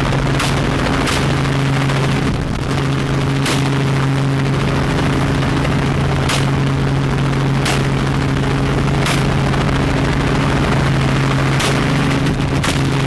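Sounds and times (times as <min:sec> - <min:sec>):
helicopter drone: 0:00.0 - 0:13.0.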